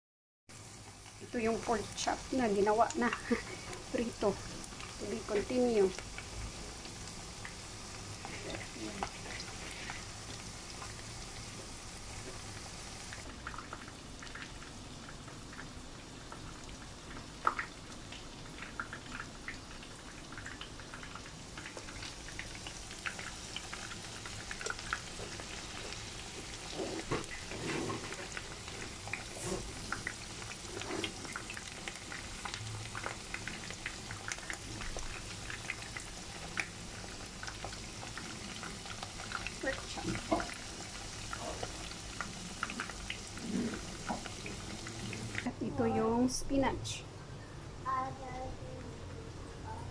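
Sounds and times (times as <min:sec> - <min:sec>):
meat deep-frying in oil: 0:00.5 - 0:47.0
oil crackling and popping: 0:00.6 - 0:45.5.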